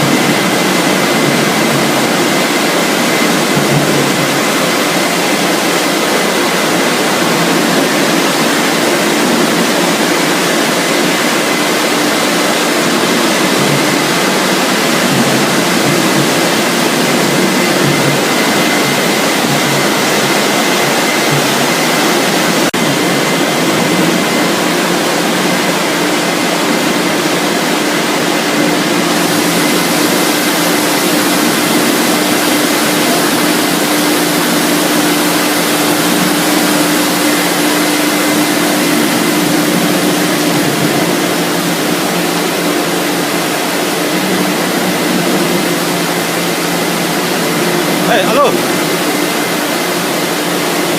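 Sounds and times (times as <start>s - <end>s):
processing machinery running: 0.0s - 50.9s.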